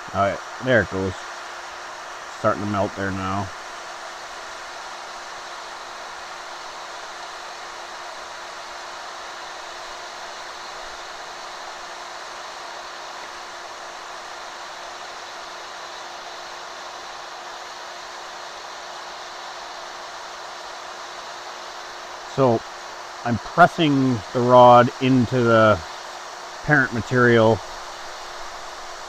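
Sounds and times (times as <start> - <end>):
hot air hissing: 0.0 - 29.0
heat gun motor hum: 0.4 - 29.0.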